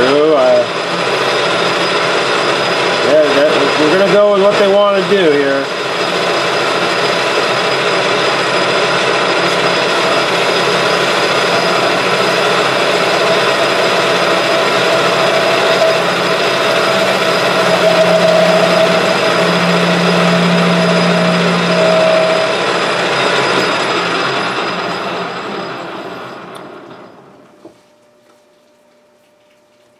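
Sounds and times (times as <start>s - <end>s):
metal lathe humming: 0.0s - 26.6s
lathe whine: 0.0s - 27.5s.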